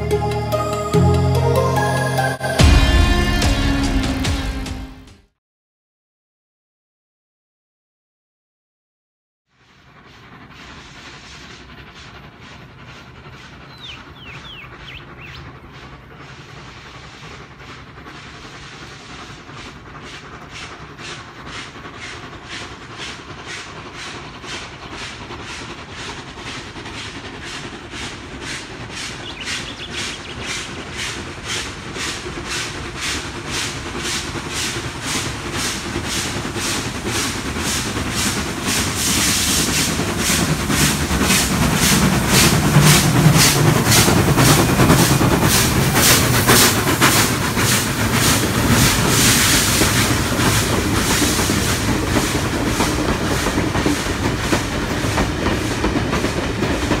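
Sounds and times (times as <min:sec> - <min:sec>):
steam locomotive exhaust beating: 0:00.0 - 0:05.1, 0:09.5 - 0:57.0
wheels clattering on rail joints: 0:09.7 - 0:57.0.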